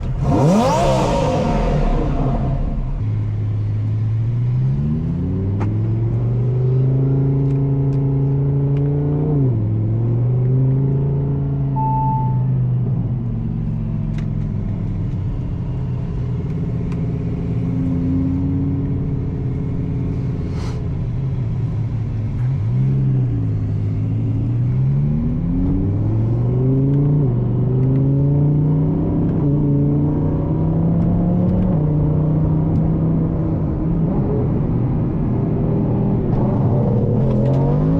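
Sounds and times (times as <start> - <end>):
car engine accelerating through gears: 0.0 - 37.9.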